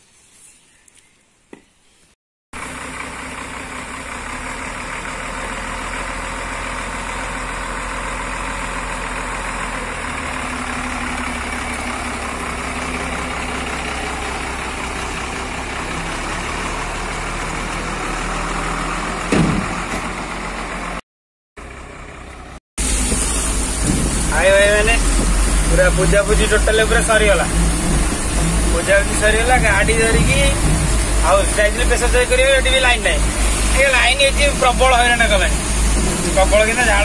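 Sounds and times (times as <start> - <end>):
diesel truck engine running: 2.6 - 21.0, 21.6 - 37.0.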